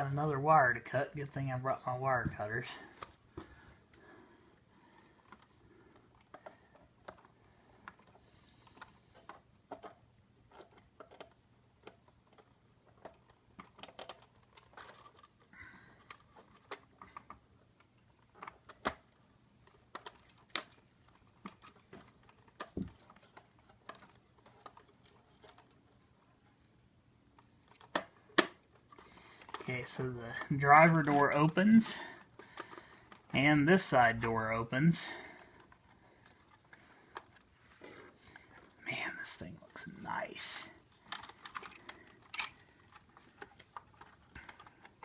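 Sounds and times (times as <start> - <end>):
plastic toy clicks and rustles: 5.0 - 45.0.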